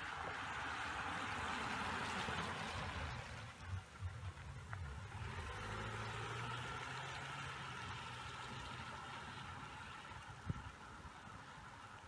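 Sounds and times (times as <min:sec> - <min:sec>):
low engine hum: 0:00.0 - 0:12.0
tyres hissing on wet road: 0:00.0 - 0:12.0.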